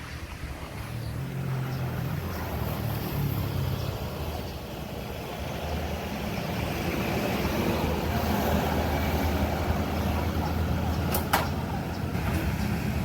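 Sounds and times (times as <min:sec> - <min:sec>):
road noise: 0:00.0 - 0:13.0
vehicle engine running: 0:00.1 - 0:13.0.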